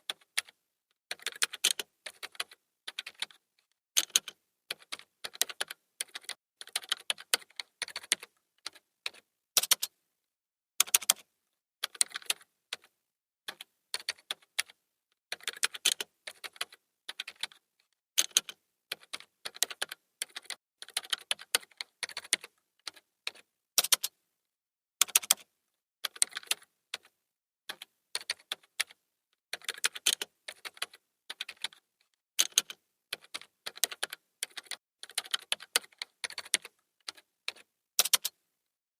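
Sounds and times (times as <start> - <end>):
keyboard typing: 0.0 - 3.4, 4.0 - 9.9, 10.8 - 17.6, 18.2 - 24.2, 25.0 - 29.0, 29.6 - 31.8, 32.4 - 38.4.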